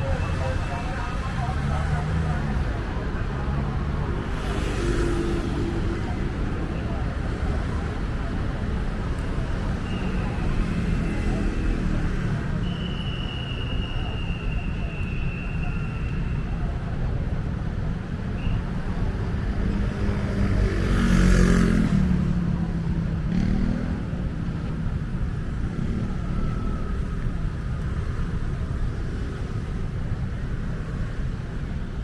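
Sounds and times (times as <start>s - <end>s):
street traffic rumble: 0.0s - 32.0s.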